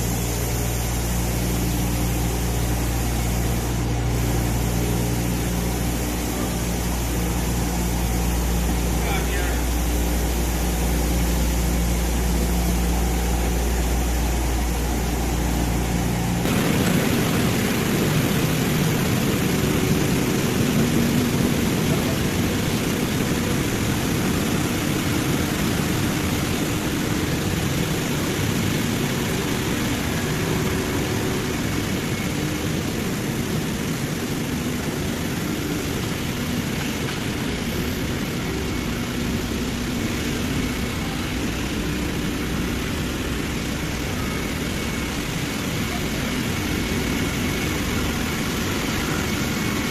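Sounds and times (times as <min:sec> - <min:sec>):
machinery running: 0:00.0 - 0:49.9.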